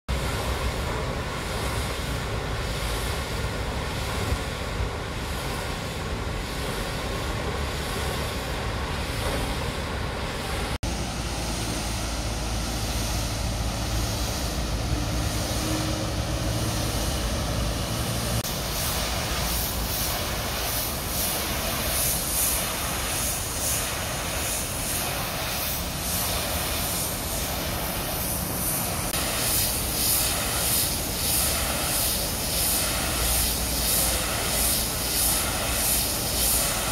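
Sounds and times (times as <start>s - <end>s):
machinery rumble: 0.1s - 36.9s
pulsing hiss of water jet: 0.1s - 36.9s.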